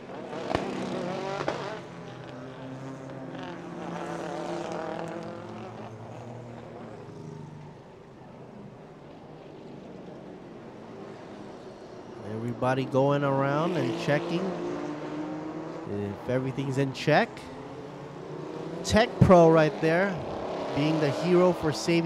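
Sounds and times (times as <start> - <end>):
race car engines passing: 0.0 - 22.0.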